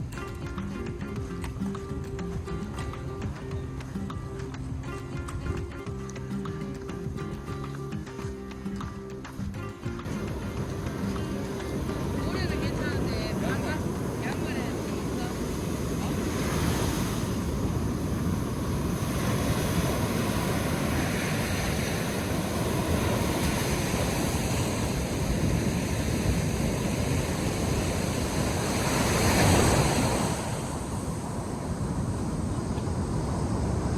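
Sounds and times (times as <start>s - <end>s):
surf washing onto sand: 0.0s - 33.9s
wind on microphone: 0.0s - 33.9s.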